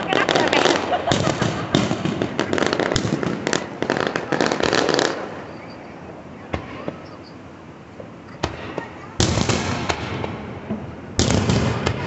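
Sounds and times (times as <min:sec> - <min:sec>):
fireworks crackling pops: 0:00.0 - 0:05.9, 0:08.0 - 0:12.0
fireworks sharp bangs: 0:00.0 - 0:07.4, 0:08.0 - 0:12.0.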